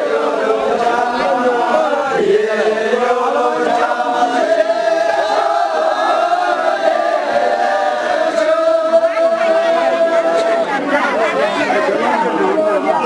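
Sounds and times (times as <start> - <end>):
group singing in chanting style: 0.0 - 13.0.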